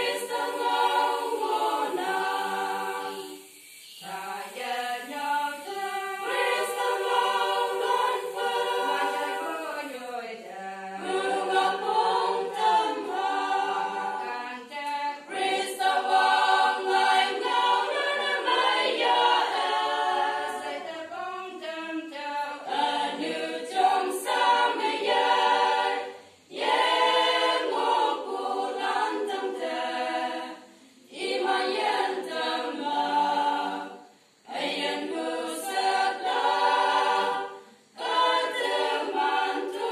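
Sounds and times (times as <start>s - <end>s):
women's choir singing a cappella: 0.0s - 39.9s.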